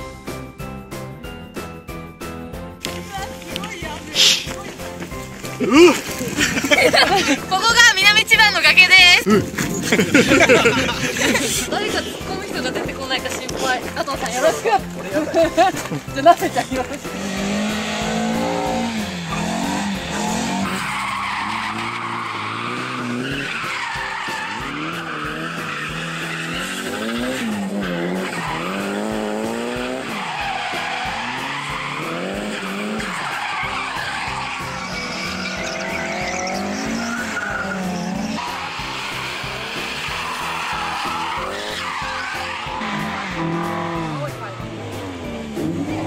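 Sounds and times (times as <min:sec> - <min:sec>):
car engines revving: 0:02.8 - 0:46.0
tyres squealing: 0:02.8 - 0:46.0.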